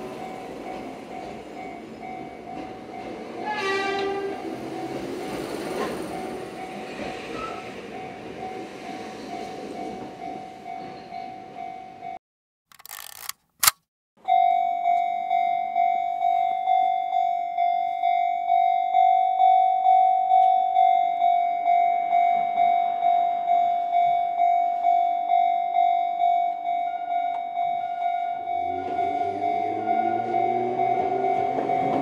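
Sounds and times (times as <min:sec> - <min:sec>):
level crossing alarm bell: 0:00.0 - 0:05.2, 0:07.9 - 0:12.2, 0:14.2 - 0:32.0.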